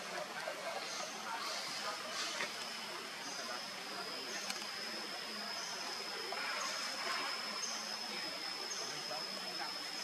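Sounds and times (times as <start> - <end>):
high-pitched insect drone: 0.8 - 10.0.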